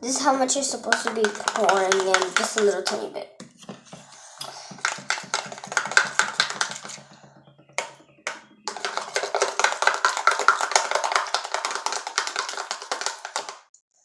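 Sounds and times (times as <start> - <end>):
wet clicking of stirred soap: 0.1 - 3.8, 4.4 - 13.7.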